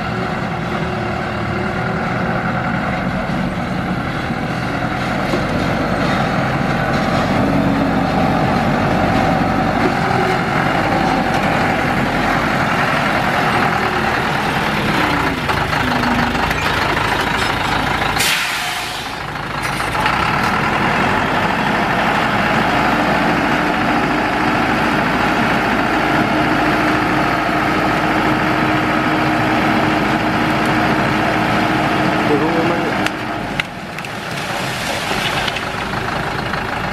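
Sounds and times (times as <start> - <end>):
diesel truck engine running: 0.0 - 36.9.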